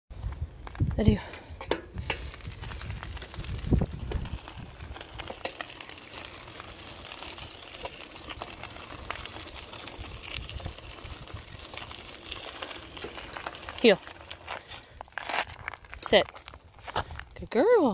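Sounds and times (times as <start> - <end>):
bicycle tyres rolling over gravel: 0.1 - 17.9.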